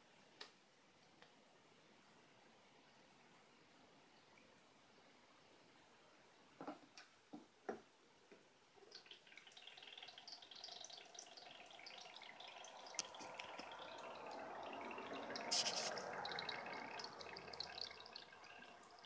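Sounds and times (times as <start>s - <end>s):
water dripping and trickling: 0.1s - 19.0s.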